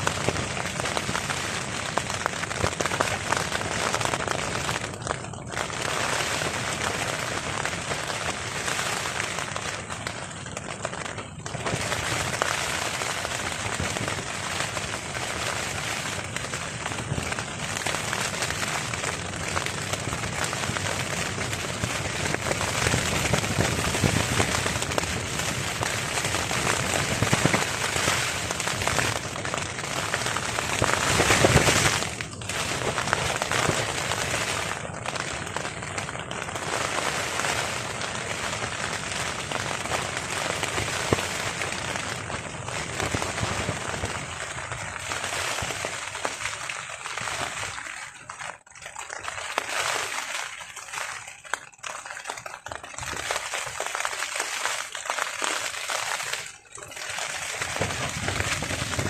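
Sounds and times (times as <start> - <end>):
heavy rain pattering on a tarp: 0.0 - 59.0.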